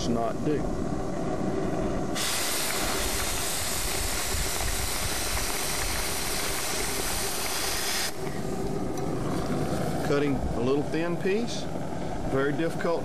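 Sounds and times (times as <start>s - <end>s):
cutting torch hissing: 0.0s - 13.0s.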